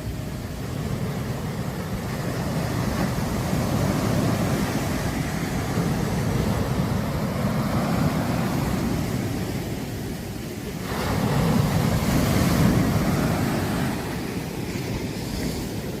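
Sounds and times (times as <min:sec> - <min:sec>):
sea surf breaking on beach: 0:00.0 - 0:16.0.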